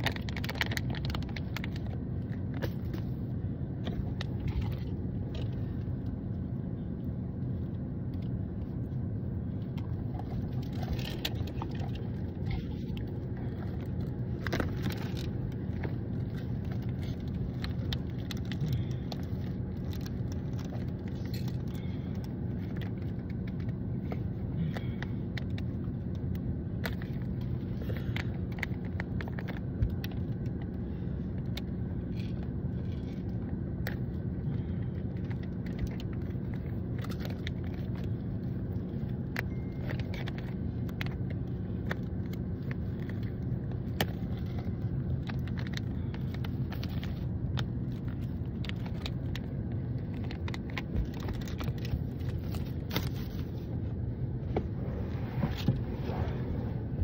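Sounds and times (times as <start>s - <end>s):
foil packet crinkling: 0.0s - 6.1s, 9.7s - 53.8s
car engine hum from cabin: 0.0s - 57.0s.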